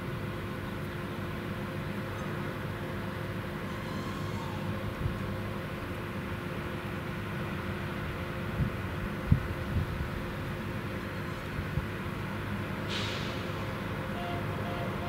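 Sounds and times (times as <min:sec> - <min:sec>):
diesel engine hum: 0:00.0 - 0:15.0.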